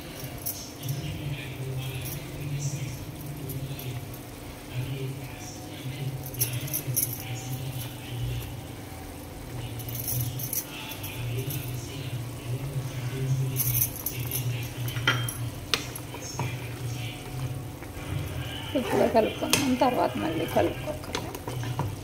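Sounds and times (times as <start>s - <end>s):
gravy boiling in a pan: 0.0s - 6.5s, 7.2s - 9.8s, 10.6s - 13.6s, 14.2s - 22.0s.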